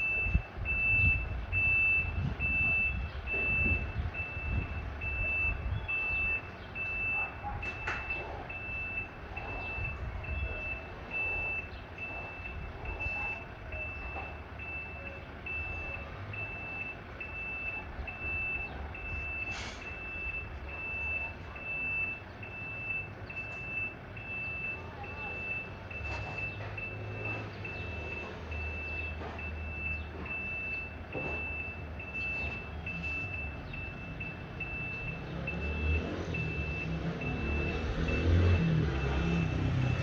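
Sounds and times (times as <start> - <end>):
diesel engine rumble: 0.0 - 40.0
truck reverse alarm beeping: 0.0 - 40.0.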